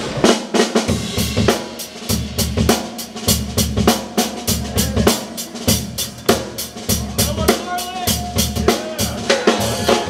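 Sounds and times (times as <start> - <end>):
drum kit funk groove: 0.0 - 10.0.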